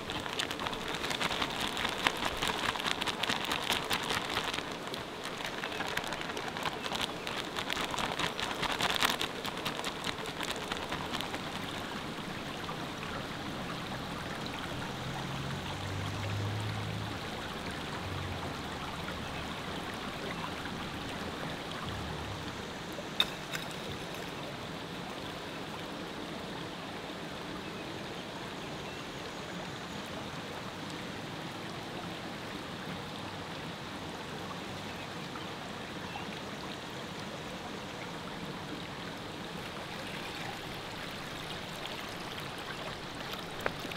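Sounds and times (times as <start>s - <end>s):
flowing river water: 0.0s - 43.9s.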